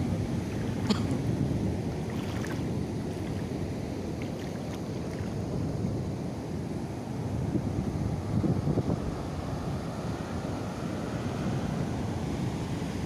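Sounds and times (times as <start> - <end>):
surf washing: 0.0 - 13.0
wind rumble on microphone: 0.0 - 13.0.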